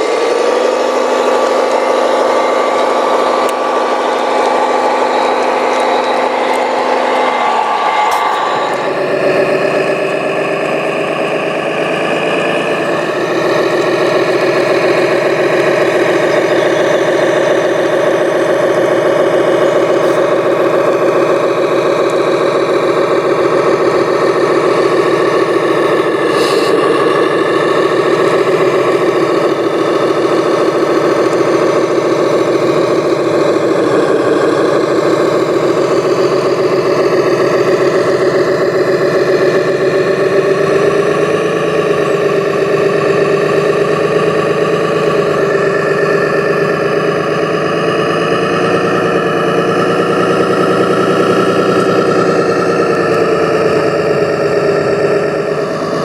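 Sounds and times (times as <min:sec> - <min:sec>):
model engine idling: 0:00.0 - 0:56.0.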